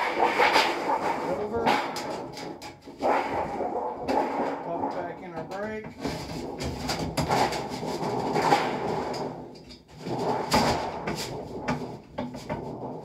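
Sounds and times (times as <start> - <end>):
sheet metal clanks and rattles: 0.0 - 13.0
sheet metal scraping: 0.0 - 13.0.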